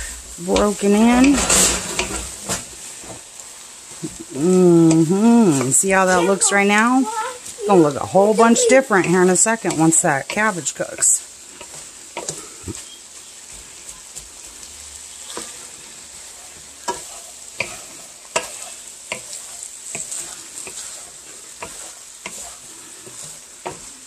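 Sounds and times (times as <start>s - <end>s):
vegetables sizzling in frying pan: 0.0s - 24.0s
wooden spatula scraping pan: 0.0s - 24.0s.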